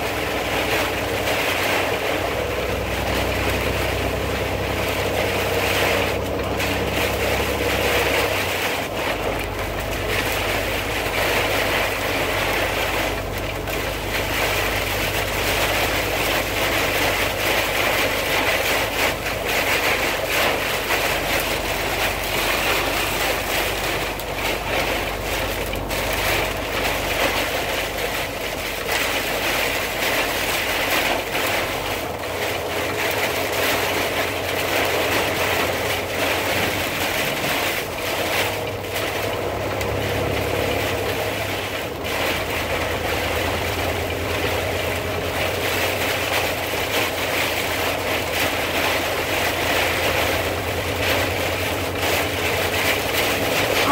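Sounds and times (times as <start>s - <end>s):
car engine drone: 0.0s - 53.9s.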